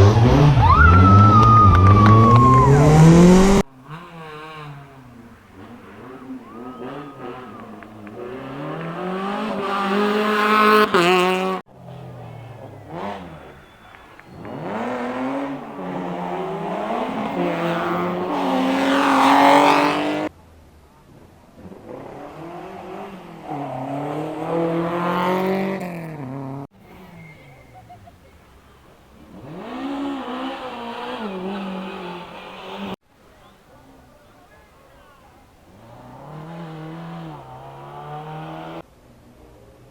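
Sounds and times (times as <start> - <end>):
rally cars accelerating hard: 0.0 - 20.3, 21.1 - 34.7, 35.4 - 39.9.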